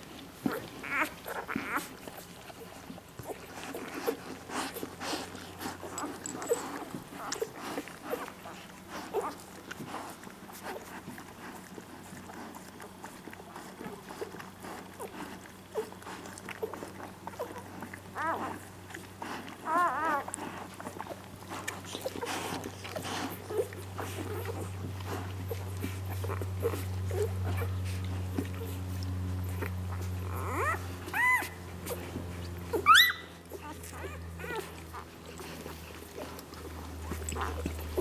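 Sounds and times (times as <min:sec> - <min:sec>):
low steady hum: 0:00.0 - 0:38.0
puppies suckling clicks: 0:00.0 - 0:38.0
puppies squeaking and whimpering: 0:00.4 - 0:11.5, 0:13.6 - 0:38.0.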